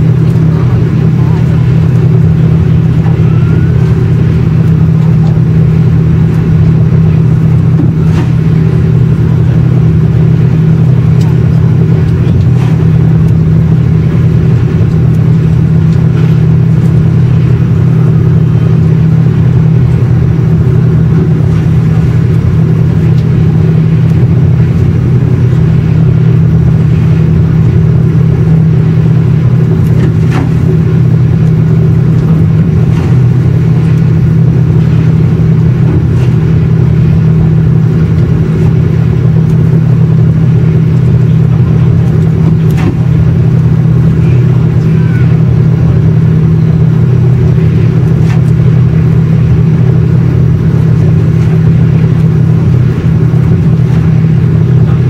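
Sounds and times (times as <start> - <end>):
ferry engines droning: 0.0 - 55.0.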